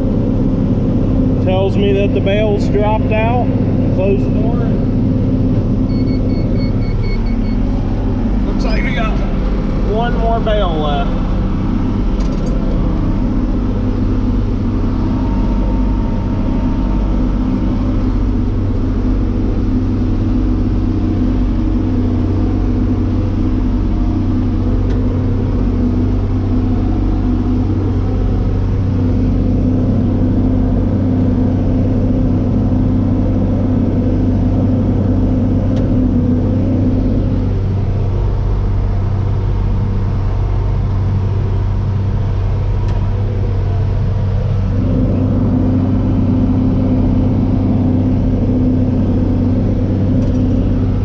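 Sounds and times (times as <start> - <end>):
tractor engine under load: 0.0 - 51.0.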